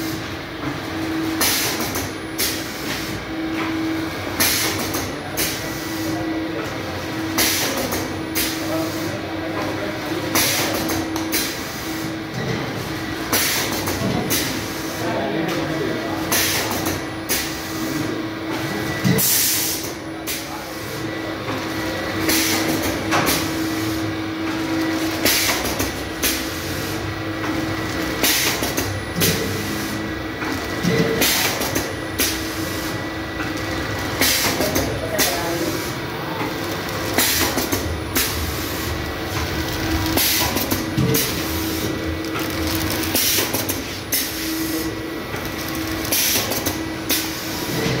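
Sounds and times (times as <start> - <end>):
packing machine humming: 0.0 - 48.0.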